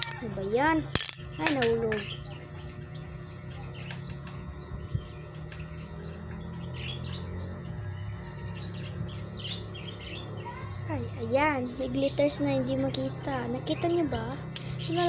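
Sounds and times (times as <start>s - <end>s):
steady low hum: 0.0s - 15.0s
bird chirping: 1.4s - 15.0s.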